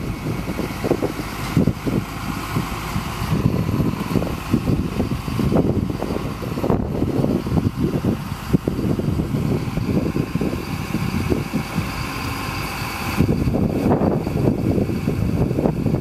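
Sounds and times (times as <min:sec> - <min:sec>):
hydraulic whine: 0:00.0 - 0:16.0
truck engine running: 0:00.0 - 0:16.0
wind buffeting microphone: 0:00.0 - 0:16.0.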